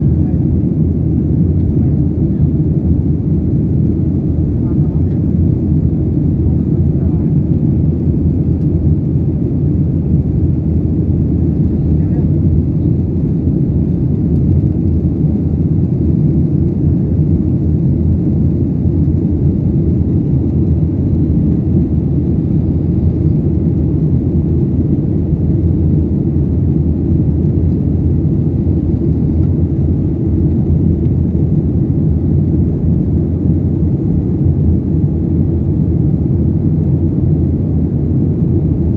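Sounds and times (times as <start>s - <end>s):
aircraft cabin engine drone: 0.0s - 38.9s.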